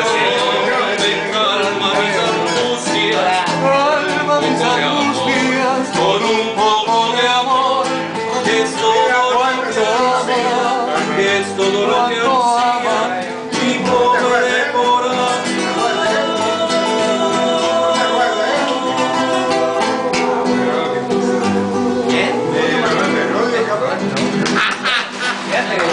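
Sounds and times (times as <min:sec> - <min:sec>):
men singing together: 0:00.0 - 0:23.4
acoustic guitar: 0:00.0 - 0:25.9.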